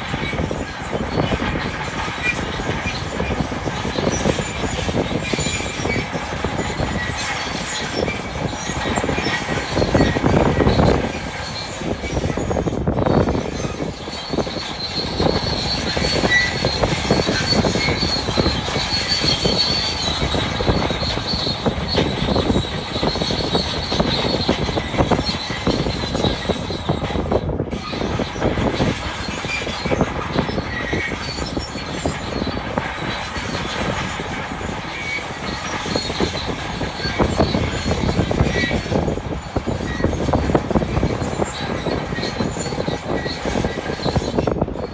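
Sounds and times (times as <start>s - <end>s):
steel tracks clanking and squealing: 0.0s - 44.9s.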